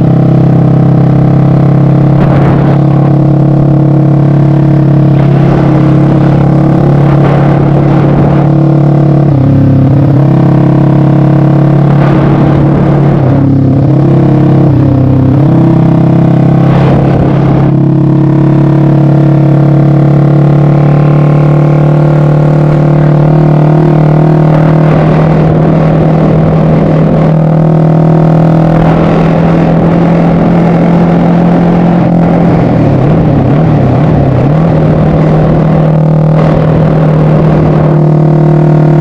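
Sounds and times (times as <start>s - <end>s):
motorcycle engine running loud: 0.0s - 39.0s.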